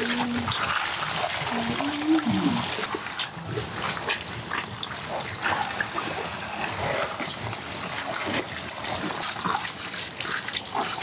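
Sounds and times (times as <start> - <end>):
hands rubbing and rinsing fruit: 0.0 - 11.0
water pouring and splashing: 0.0 - 11.0.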